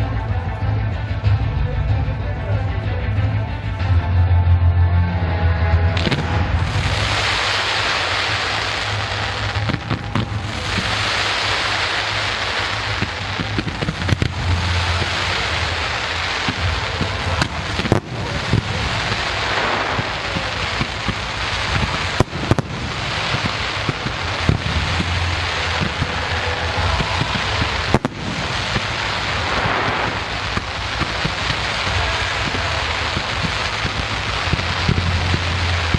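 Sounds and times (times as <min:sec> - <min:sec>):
fireworks bangs: 0:05.8 - 0:35.9
fireworks crackling: 0:05.8 - 0:35.9.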